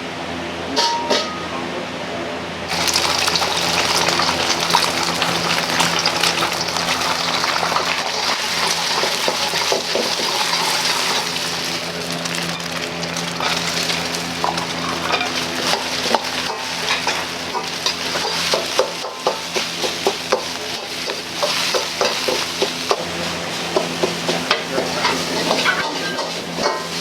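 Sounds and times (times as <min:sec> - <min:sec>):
low kitchen hum: 0:00.0 - 0:27.0
rice sizzling in a wok: 0:02.7 - 0:27.0.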